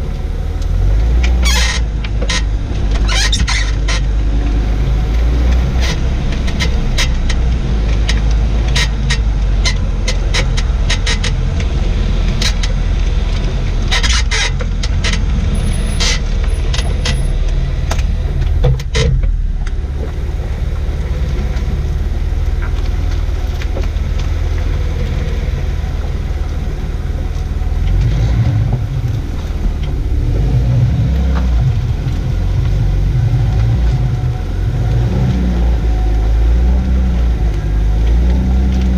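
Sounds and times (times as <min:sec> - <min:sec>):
car engine rumbling: 0:00.0 - 0:38.9
suspension squeaking and creaking: 0:00.0 - 0:38.9.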